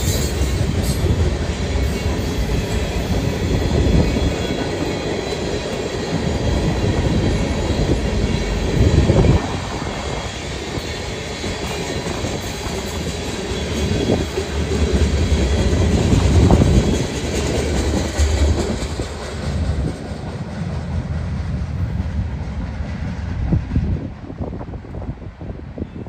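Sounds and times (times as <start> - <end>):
train wheel clacks: 0.0 - 24.2
freight train wheels rumbling: 0.0 - 26.0.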